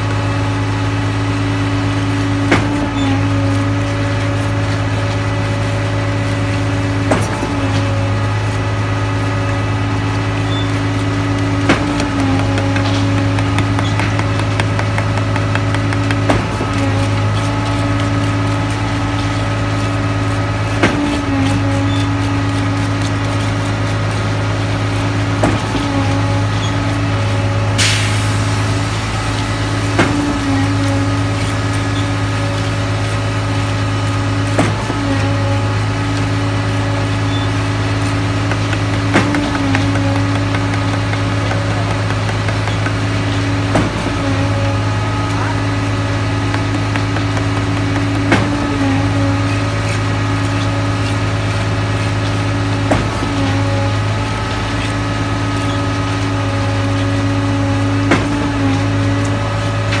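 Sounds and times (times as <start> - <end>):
diesel truck engine running: 0.0 - 60.0.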